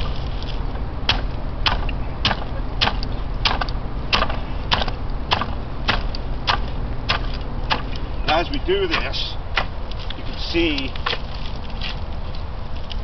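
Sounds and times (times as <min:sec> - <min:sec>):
hemp stalks cracking: 0:00.0 - 0:13.0.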